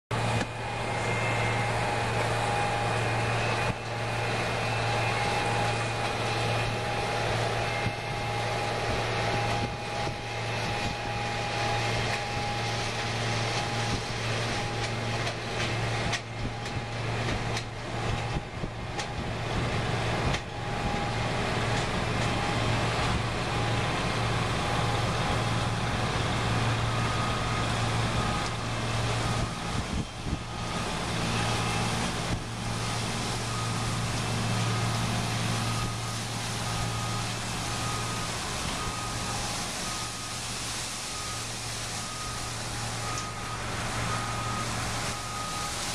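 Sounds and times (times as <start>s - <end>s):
harvester engine running: 0.1s - 45.9s.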